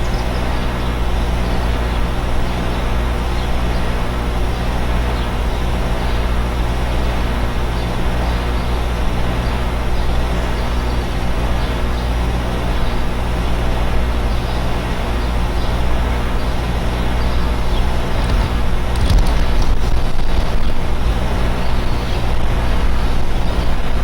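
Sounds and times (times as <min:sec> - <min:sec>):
air conditioner fan rushing: 0:00.0 - 0:24.0
air conditioner low hum: 0:00.0 - 0:24.0.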